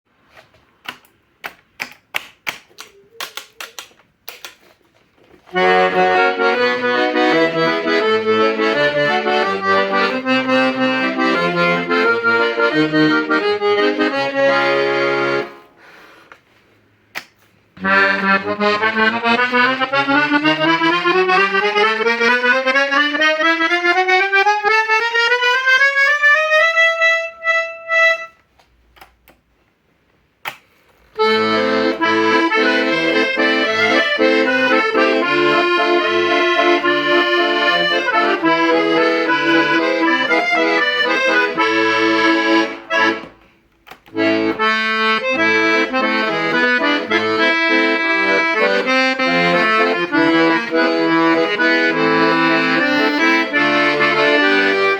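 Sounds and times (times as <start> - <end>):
accordion playing: 5.5 - 16.2, 17.8 - 28.5, 31.1 - 54.9.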